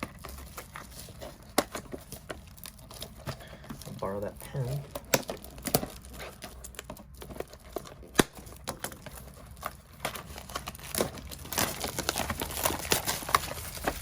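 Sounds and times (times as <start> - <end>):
plastic shrink wrap crinkling and tearing: 0.0 - 14.0.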